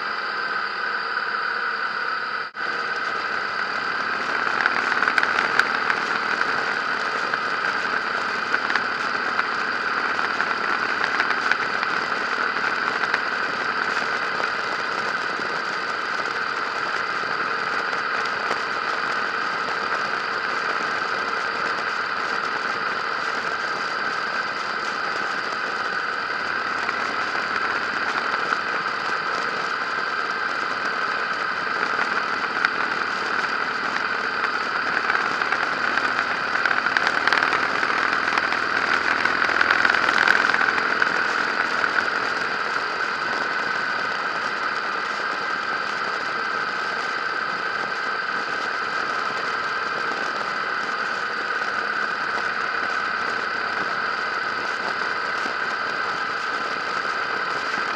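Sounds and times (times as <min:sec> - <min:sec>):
motorcycle engine running: 0:02.6 - 0:57.9.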